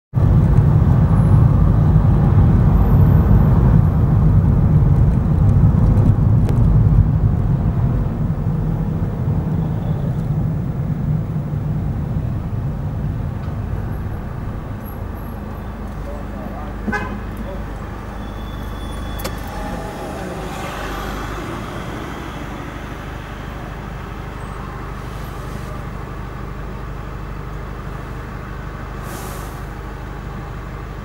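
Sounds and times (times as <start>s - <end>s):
car engine rumbling while driving: 0.1s - 31.0s
road noise: 0.1s - 31.0s.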